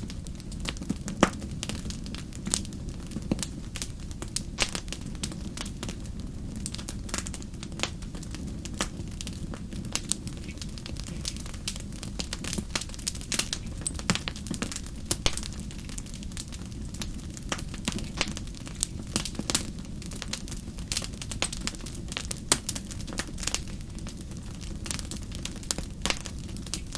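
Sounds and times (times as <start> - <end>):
fire crackling: 0.0 - 26.9.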